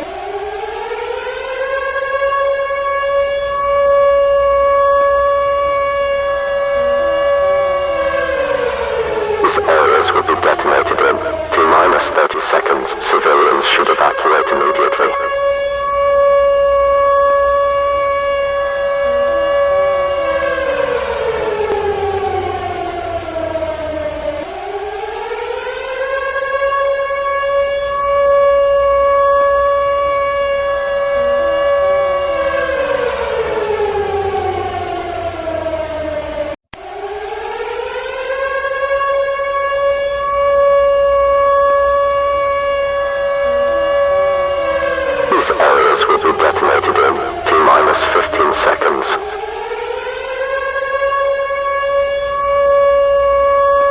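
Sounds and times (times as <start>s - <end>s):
siren wailing: 0.0s - 53.9s.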